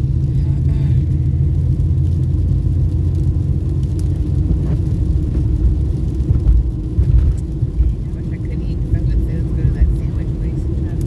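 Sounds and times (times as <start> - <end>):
car driving road noise: 0.0 - 11.0.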